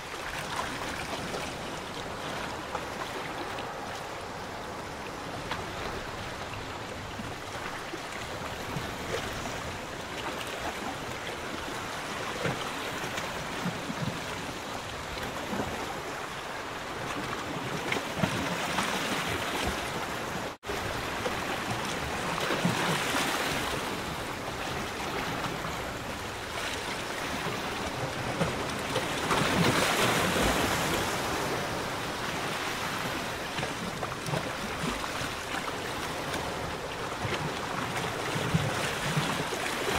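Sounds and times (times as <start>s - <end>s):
water lapping against pontoon: 0.0s - 39.9s.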